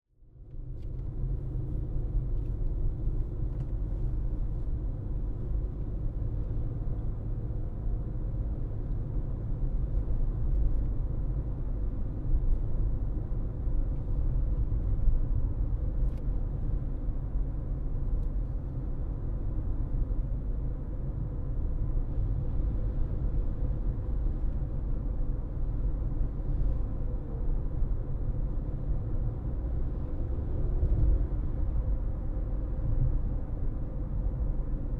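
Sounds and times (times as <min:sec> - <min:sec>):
car driving rumble: 0:00.2 - 0:34.9.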